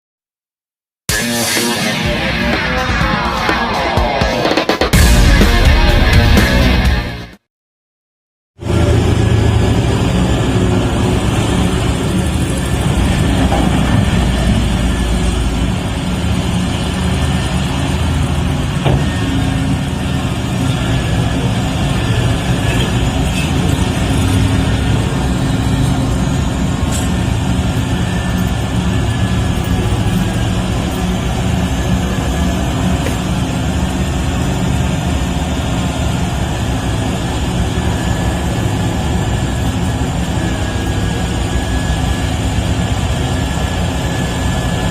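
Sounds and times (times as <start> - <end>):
vehicle engine running: 8.6 - 44.9.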